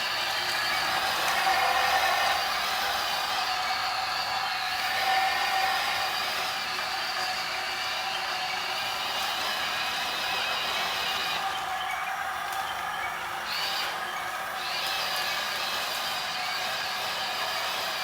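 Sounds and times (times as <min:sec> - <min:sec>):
toy excavator motors whining: 0:00.0 - 0:18.0.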